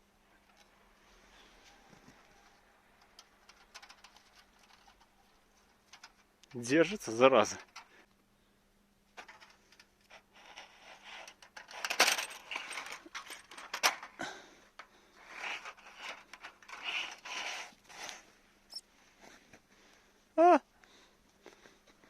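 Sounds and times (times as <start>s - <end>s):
rustling: 0.3s - 8.2s, 9.1s - 20.3s.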